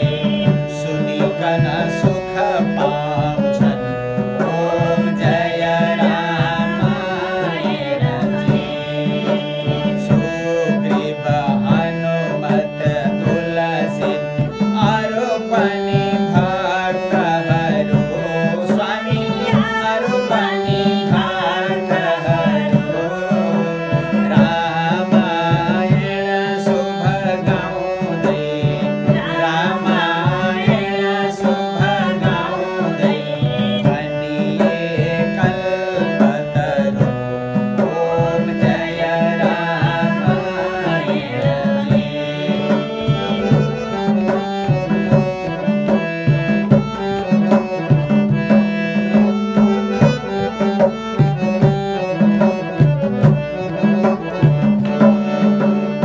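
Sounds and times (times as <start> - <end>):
man singing: 0.0 - 48.6, 49.2 - 56.0
harmonium melody: 0.0 - 56.0
tabla rhythm: 0.0 - 56.0.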